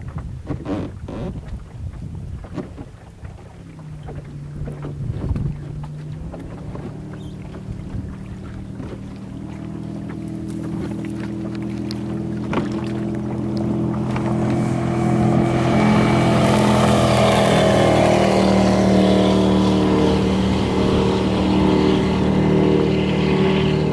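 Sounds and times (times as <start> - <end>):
speedboat engine at high speed: 0.0 - 23.9.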